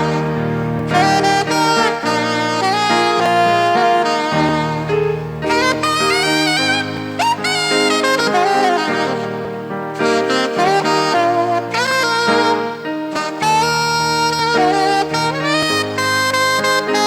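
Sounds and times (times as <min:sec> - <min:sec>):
sliding lead melody: 0:00.0 - 0:17.0
sustained chords: 0:00.0 - 0:17.0.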